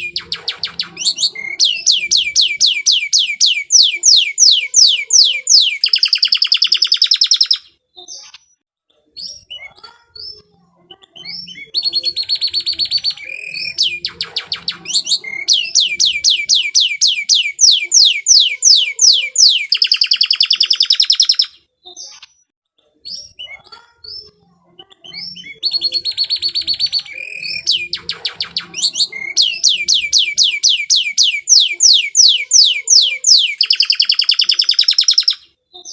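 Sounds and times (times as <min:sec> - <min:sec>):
canary singing trills: 0:00.0 - 0:08.6, 0:09.2 - 0:22.4, 0:23.1 - 0:35.9.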